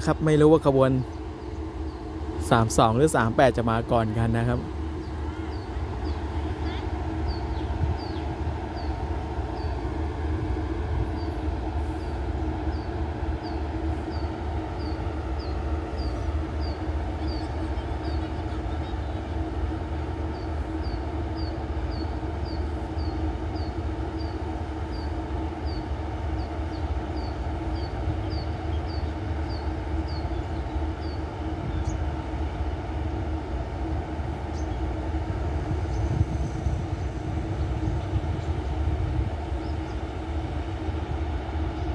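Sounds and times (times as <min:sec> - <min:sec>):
diesel railcar idling: 0:00.0 - 0:41.9.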